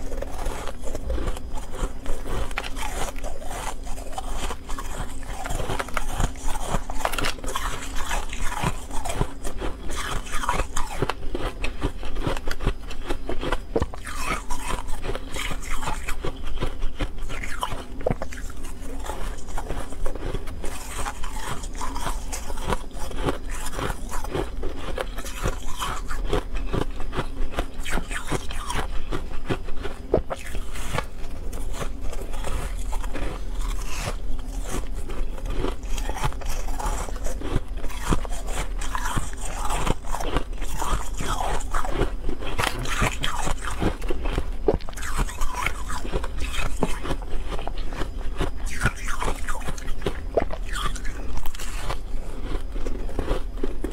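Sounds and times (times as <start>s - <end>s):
teeth chewing frost: 0.0s - 53.9s.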